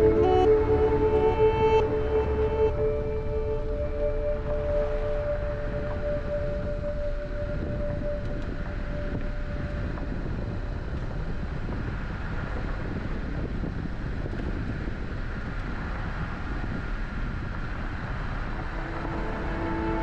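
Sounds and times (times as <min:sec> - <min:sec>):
car road and engine noise: 0:00.0 - 0:20.0
wind noise: 0:00.0 - 0:20.0.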